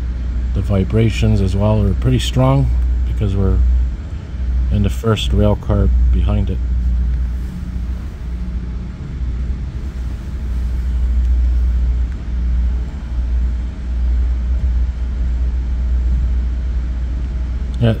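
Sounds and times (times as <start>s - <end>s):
diesel locomotive rumble: 0.0s - 18.0s.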